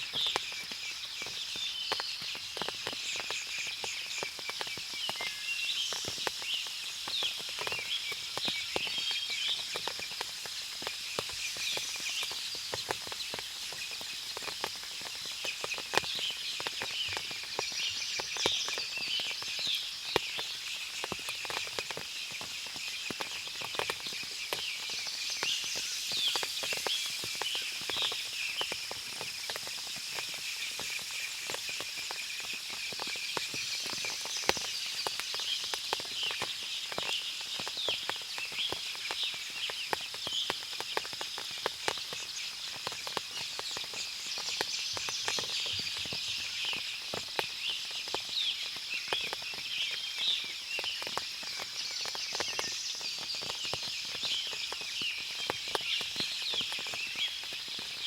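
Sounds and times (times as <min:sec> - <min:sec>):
birds chirping: 0:00.1 - 0:58.0.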